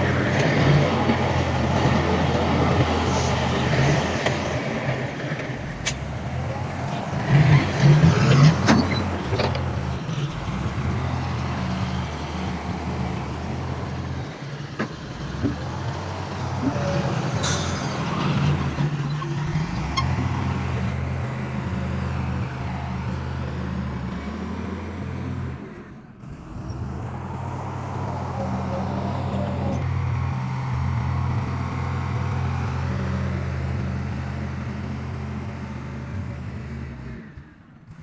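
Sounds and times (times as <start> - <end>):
heavy diesel engines running: 0.0 - 38.0.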